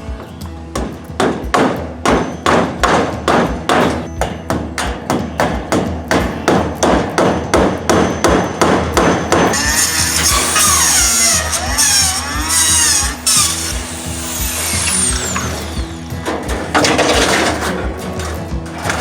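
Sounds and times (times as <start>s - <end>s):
hammer blows on wood: 0.0s - 16.9s.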